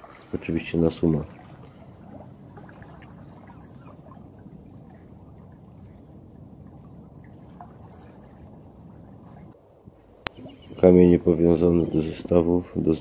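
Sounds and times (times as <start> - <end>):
river water washing against hull: 0.0 - 13.0.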